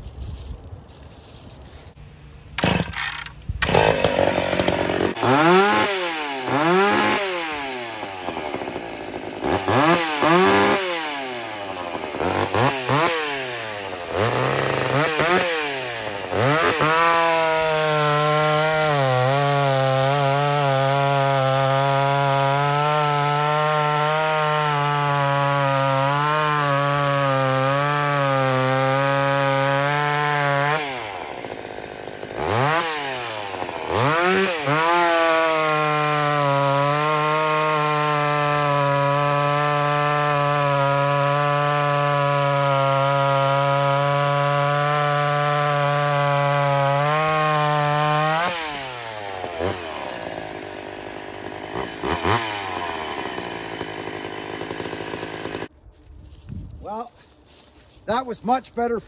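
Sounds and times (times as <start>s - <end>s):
chainsaw cutting log: 2.6s - 55.7s
chainsaw engine revving: 2.6s - 55.7s.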